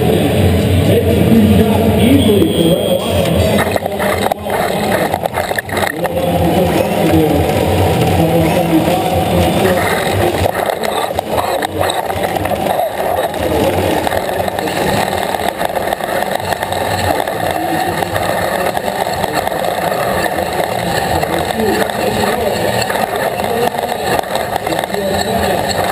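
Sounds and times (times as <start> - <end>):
robot motors running and rattling: 3.3 - 25.9.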